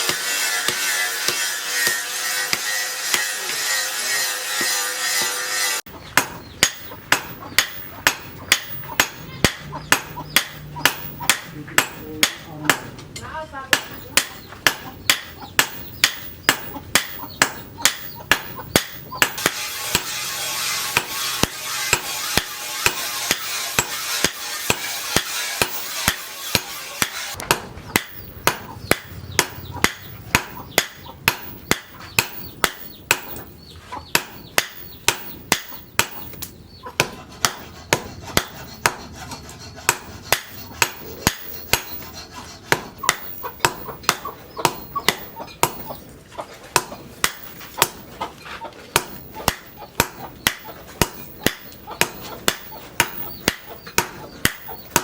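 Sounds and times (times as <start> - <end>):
hammer striking steel on anvil: 0.0 - 46.0, 46.7 - 48.1, 48.9 - 55.0.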